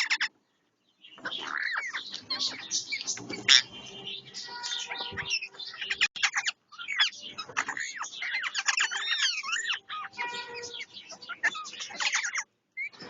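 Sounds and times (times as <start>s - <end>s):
parrots squawking and chattering: 0.0s - 0.4s, 1.1s - 13.0s.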